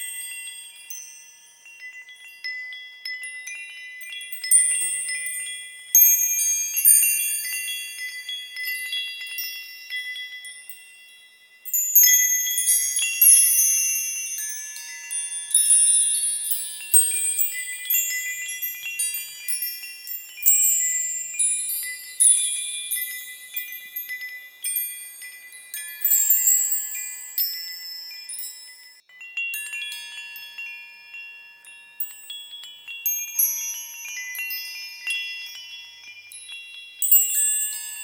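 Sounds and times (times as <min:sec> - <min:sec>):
small high-pitched bells chiming: 0:00.0 - 0:38.0.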